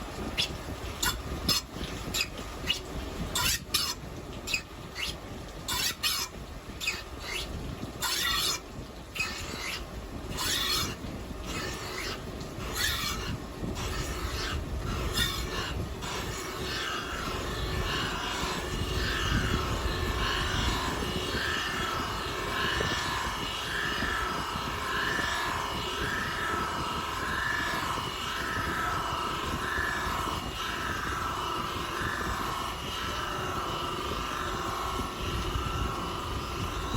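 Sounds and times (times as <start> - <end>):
grinder scraping strokes: 0.0 - 36.9
grinder wheel whine: 0.0 - 36.9.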